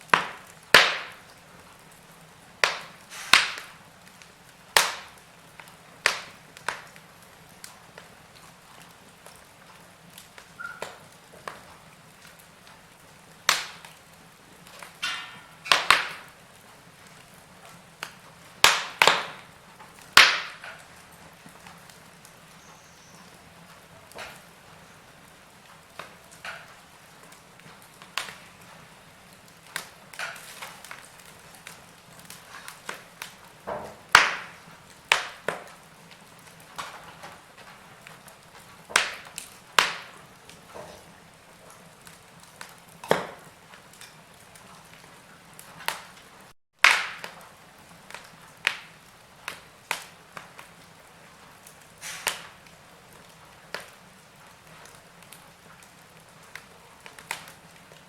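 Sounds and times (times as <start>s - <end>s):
faint steady hiss: 0.0s - 46.6s
wood fire crackling: 0.0s - 58.0s.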